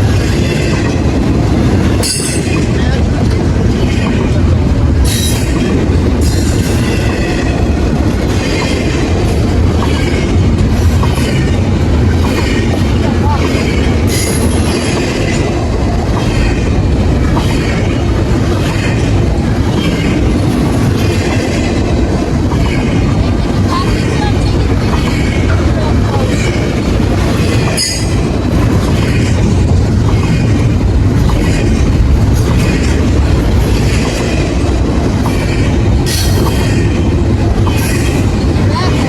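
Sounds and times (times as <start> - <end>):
train cars rumbling past: 0.0 - 39.0
wheels clattering rhythmically: 0.0 - 39.0.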